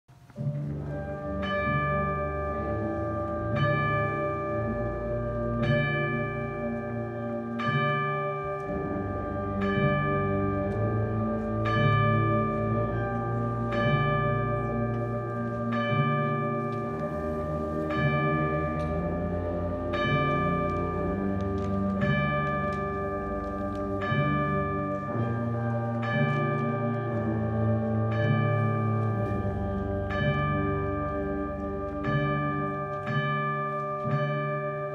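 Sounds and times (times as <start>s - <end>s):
concert band sustained wind chords: 0.2s - 34.9s.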